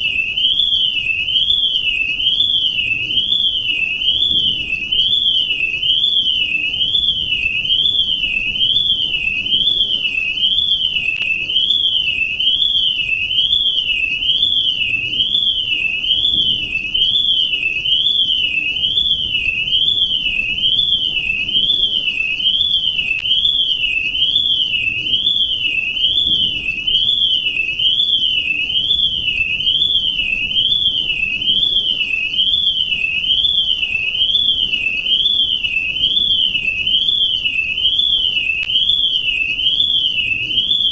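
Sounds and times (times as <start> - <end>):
electronic alarm whistling tone: 0.0 - 40.9.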